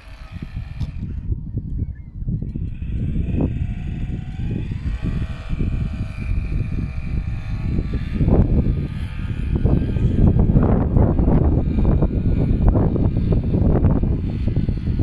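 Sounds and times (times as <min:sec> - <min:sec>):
droning hum of several tones: 0:00.0 - 0:15.0
wind buffeting microphone: 0:00.0 - 0:15.0.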